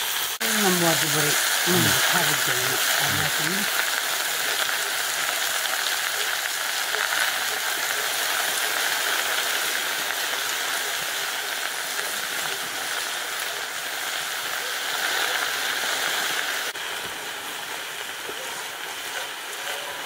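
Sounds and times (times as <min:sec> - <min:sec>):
greens sizzling in a hot pan: 0:00.0 - 0:20.0.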